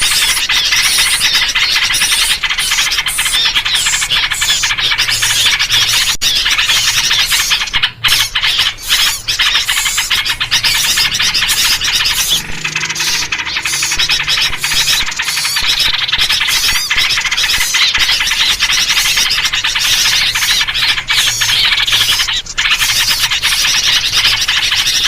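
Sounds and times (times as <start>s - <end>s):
bulbul calls: 0.0s - 25.0s
small birds chirping and chattering: 0.0s - 25.0s.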